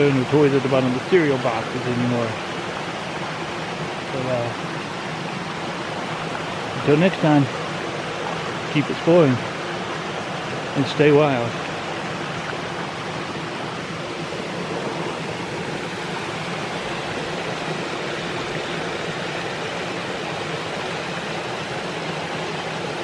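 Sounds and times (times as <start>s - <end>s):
water rushing over waterfall: 0.0s - 23.0s.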